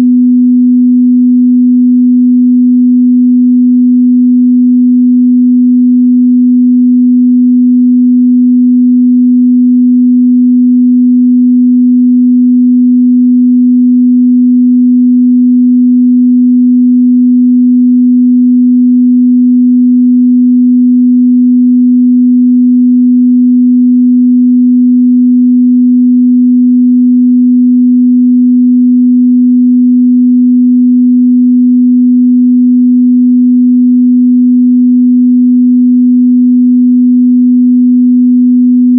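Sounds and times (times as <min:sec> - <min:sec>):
pure sine tone: 0:00.0 - 0:38.9.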